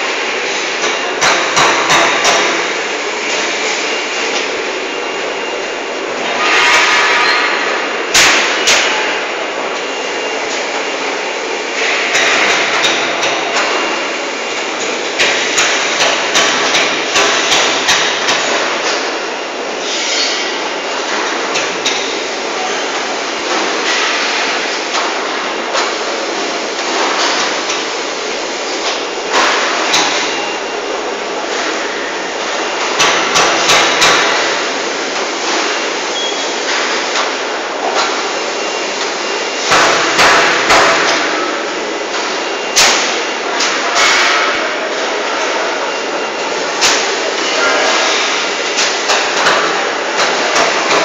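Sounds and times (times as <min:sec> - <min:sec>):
steady machinery noise: 0:00.0 - 0:51.0.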